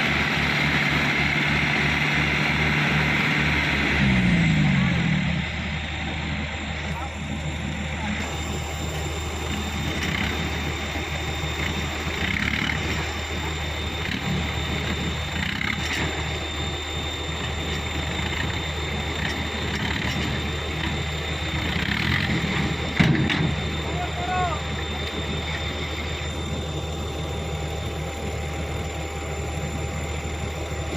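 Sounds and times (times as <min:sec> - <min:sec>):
diesel truck engine humming: 0:00.0 - 0:30.9.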